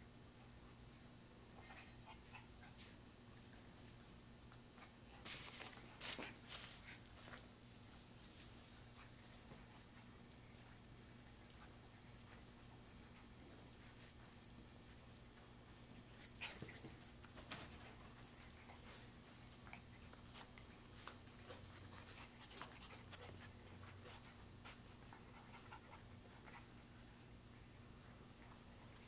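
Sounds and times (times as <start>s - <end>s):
soft puppy vocal sounds: 0.0s - 29.0s
steady low hum: 0.0s - 29.0s
puppy claws tapping and scuffling: 1.7s - 27.5s.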